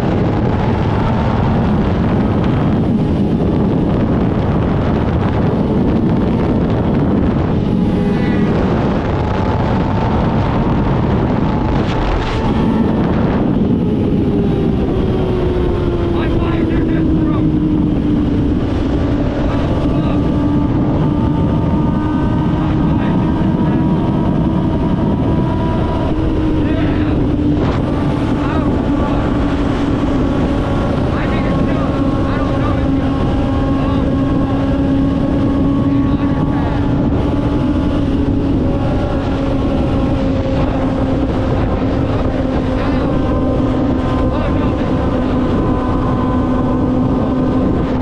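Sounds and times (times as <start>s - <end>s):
motorcycle engine cruising: 0.0s - 48.0s
wind rush over microphone: 0.0s - 48.0s.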